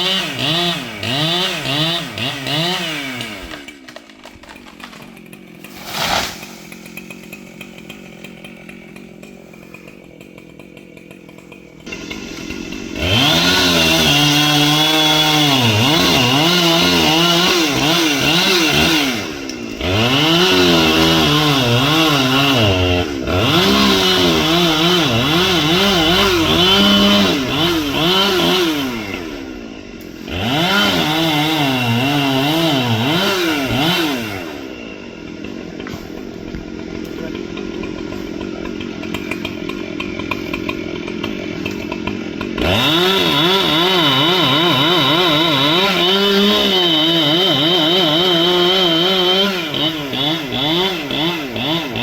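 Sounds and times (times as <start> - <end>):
chainsaw cutting wood: 0.0 - 52.0
chainsaw idling: 0.0 - 52.0.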